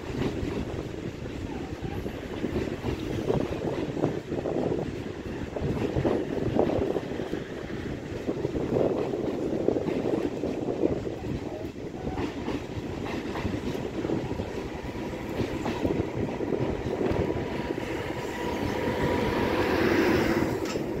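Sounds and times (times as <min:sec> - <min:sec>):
hiss of passing train: 0:00.0 - 0:21.0
train rumble: 0:00.0 - 0:21.0
train wheels clattering over joints: 0:00.0 - 0:21.0.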